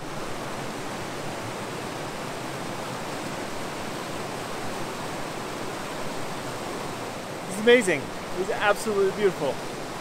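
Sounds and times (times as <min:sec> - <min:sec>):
stream rushing over rocks: 0:00.0 - 0:10.0.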